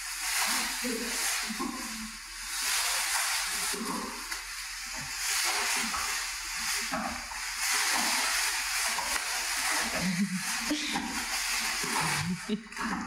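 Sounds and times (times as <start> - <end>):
plastic sheeting rustling: 0.0 - 13.0.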